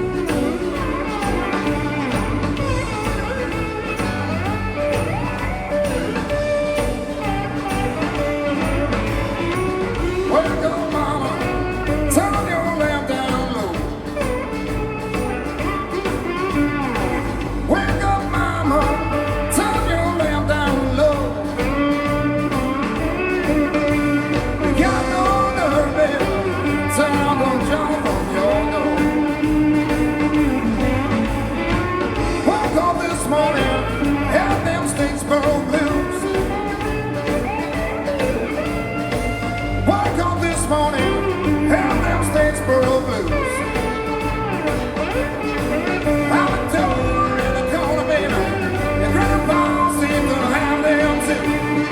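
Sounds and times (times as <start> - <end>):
electric guitar lines: 0.0 - 51.9
live blues-rock band playing: 0.0 - 51.9.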